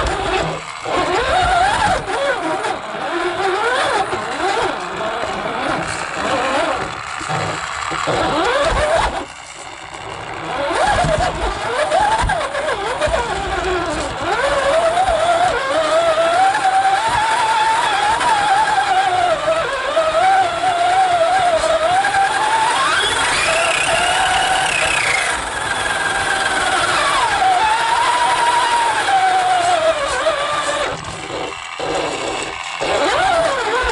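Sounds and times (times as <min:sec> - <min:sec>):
toy car motor whining: 0:00.0 - 0:33.9.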